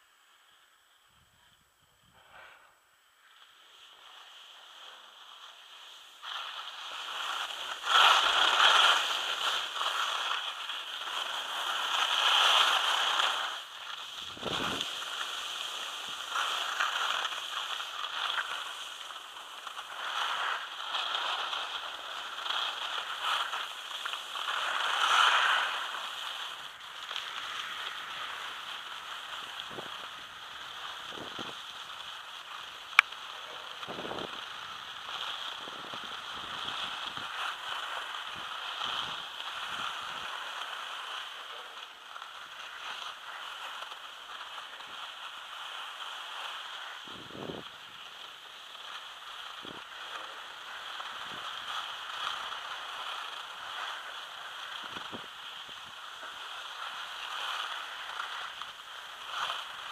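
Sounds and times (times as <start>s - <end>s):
skis scraping over snow: 2.1s - 59.9s.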